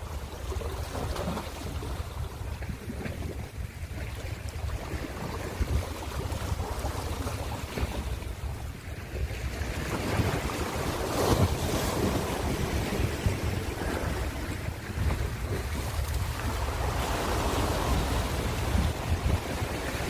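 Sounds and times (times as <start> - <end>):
ocean surf washing: 0.0 - 20.0
wind rumble on microphone: 0.0 - 20.0.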